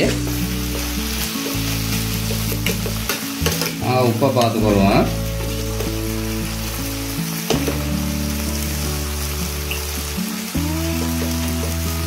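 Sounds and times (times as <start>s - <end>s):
filling sizzling in a frying pan: 0.0s - 12.0s
slow background music: 0.0s - 12.0s.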